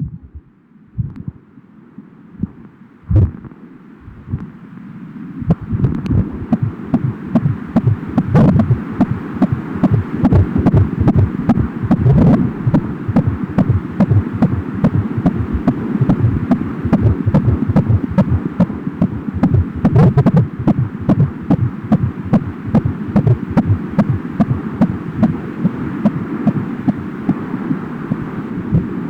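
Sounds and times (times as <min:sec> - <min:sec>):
fetal heartbeat on doppler: 0:00.0 - 0:01.4, 0:02.4 - 0:04.5, 0:05.4 - 0:27.8, 0:28.7 - 0:29.0
low pulsing noise: 0:00.0 - 0:01.6, 0:02.3 - 0:29.0.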